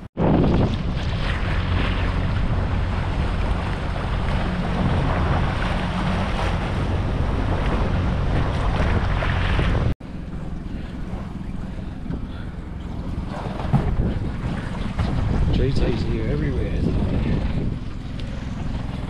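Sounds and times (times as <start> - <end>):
outboard motor running: 0.0 - 19.0
water rushing past hull: 0.0 - 19.0
wind buffeting microphone: 0.0 - 19.0.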